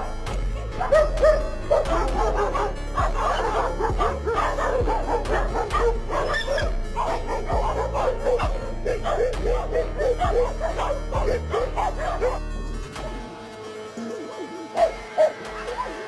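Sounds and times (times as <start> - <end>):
music with low beat: 0.0 - 16.0.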